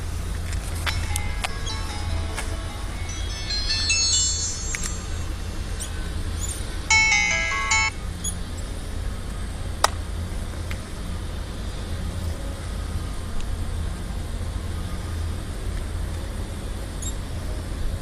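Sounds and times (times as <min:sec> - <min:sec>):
low outdoor background rumble: 0:00.0 - 0:18.0.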